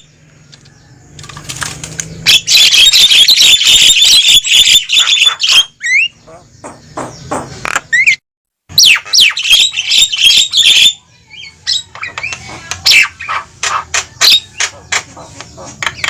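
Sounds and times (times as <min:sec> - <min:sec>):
birds squawking and chattering: 0:00.0 - 0:16.0.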